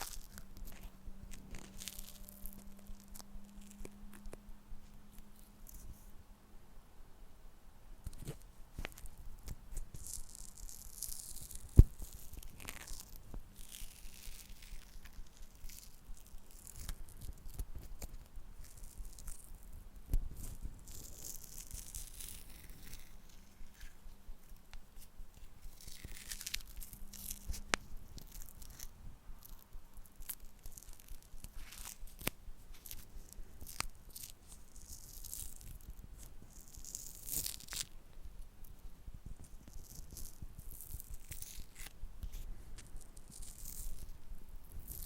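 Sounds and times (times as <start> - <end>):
scratchy rustles and scrapes: 0.0 - 6.2, 8.0 - 45.0.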